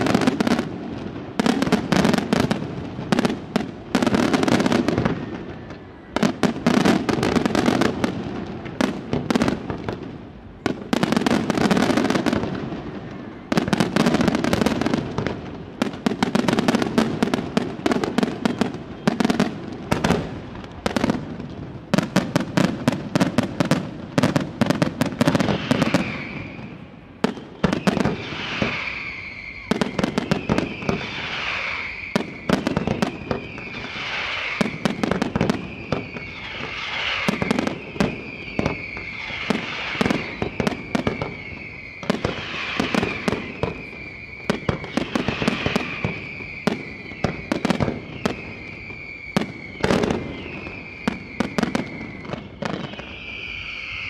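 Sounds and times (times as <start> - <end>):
firework whistle sliding down: 0.0 - 10.0, 10.9 - 21.2, 22.1 - 54.0
fireworks bangs and crackles: 0.0 - 54.0.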